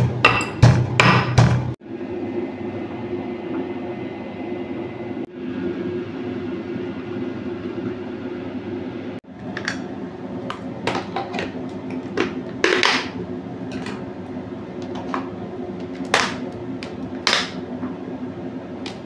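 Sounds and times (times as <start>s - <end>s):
steady low hum: 1.4s - 19.0s.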